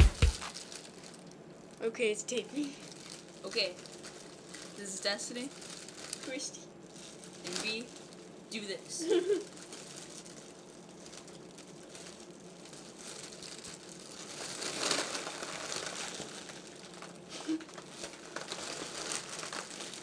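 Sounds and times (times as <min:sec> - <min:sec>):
balloon crinkling and rustling: 0:00.0 - 0:01.8, 0:02.6 - 0:08.4, 0:09.2 - 0:20.0.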